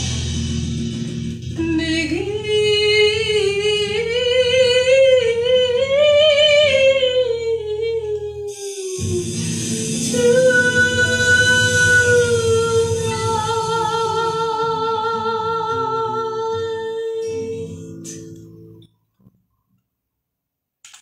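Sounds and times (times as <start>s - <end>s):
musical accompaniment: 0.0s - 5.8s, 6.7s - 18.9s.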